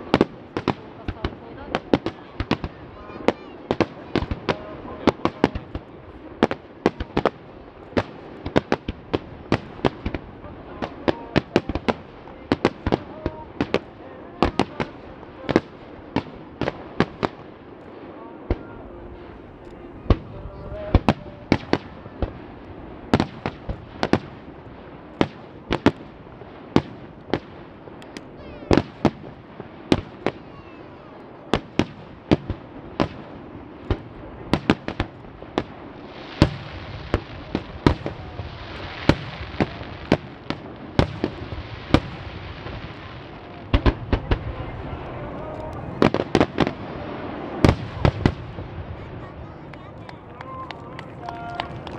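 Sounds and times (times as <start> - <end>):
dense crackling hiss: 0.0 - 51.9.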